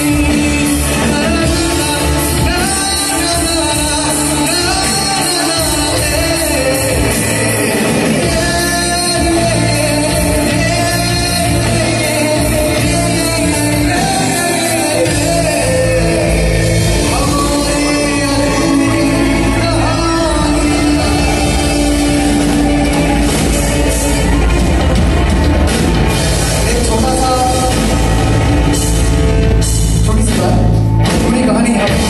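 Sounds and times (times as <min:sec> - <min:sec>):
live band with singer: 0:00.0 - 0:32.0.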